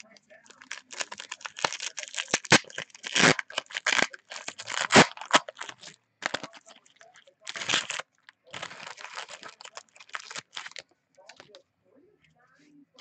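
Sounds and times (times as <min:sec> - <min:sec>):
foil wrapper tearing and crinkling: 0:00.0 - 0:11.5.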